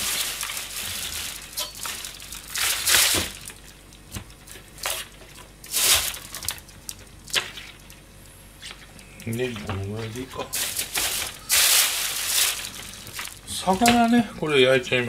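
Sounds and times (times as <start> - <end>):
plastic wrapping crinkling: 0.0 - 8.1, 8.7 - 14.2.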